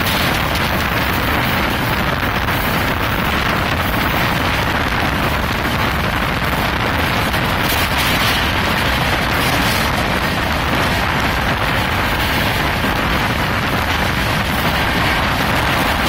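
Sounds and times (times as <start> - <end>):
train wheels rumbling on track: 0.0 - 16.0
wind buffeting microphone: 0.0 - 16.0.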